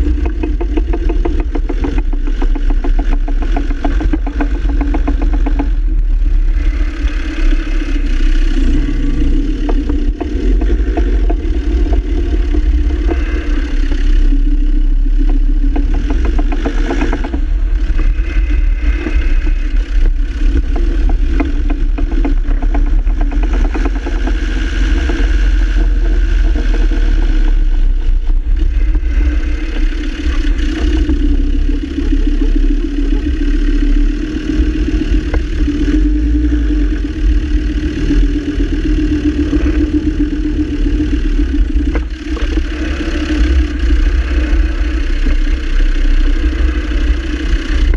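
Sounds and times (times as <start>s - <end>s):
diesel engine running: 0.0s - 47.9s
propshaft joint rattling: 0.0s - 47.9s.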